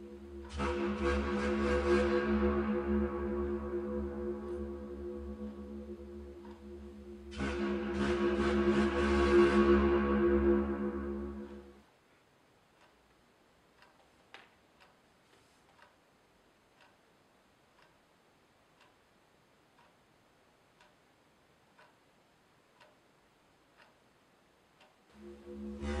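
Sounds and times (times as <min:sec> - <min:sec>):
faint clock ticking: 0:00.0 - 0:26.0.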